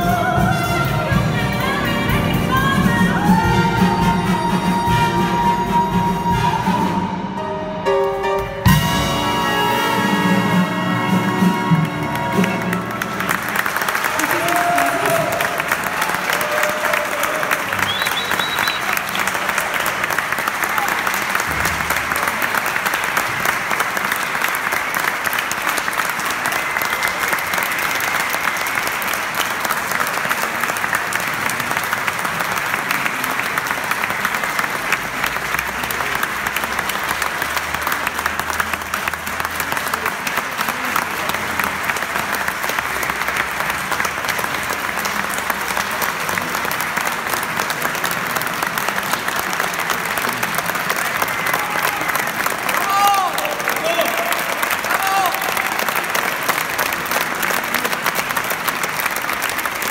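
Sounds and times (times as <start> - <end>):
audience applause: 8.7 - 59.9.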